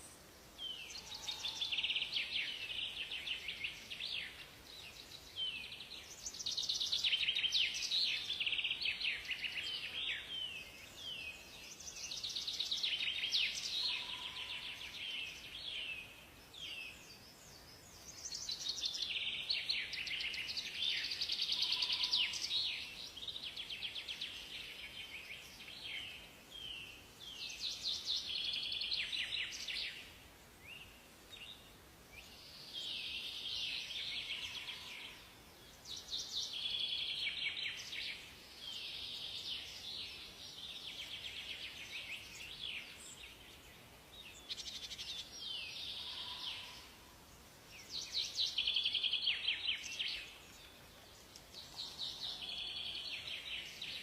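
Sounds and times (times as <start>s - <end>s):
songbirds twittering: 0.0s - 54.0s.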